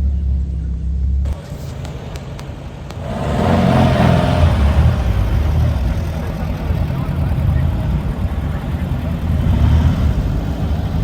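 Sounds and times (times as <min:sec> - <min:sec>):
car driving by: 0:01.3 - 0:11.0.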